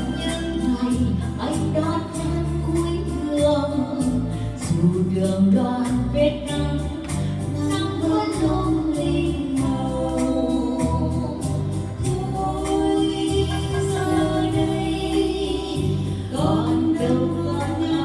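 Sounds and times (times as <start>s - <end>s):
two women singing a duet: 0.0s - 18.0s.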